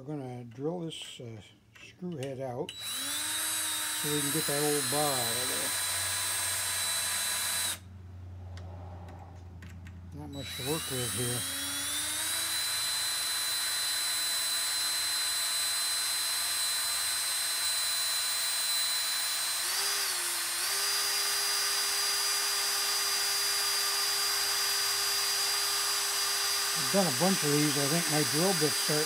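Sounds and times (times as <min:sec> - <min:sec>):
cordless drill whining: 0:02.7 - 0:07.9, 0:10.2 - 0:29.0.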